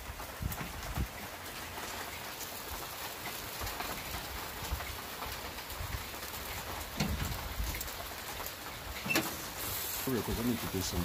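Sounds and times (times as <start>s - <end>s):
rain hissing and pattering: 0.0s - 11.0s.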